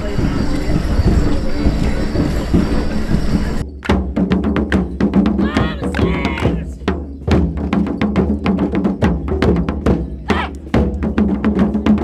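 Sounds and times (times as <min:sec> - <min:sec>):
folk dance band music: 0:00.0 - 0:11.8
drum beat: 0:00.0 - 0:12.0.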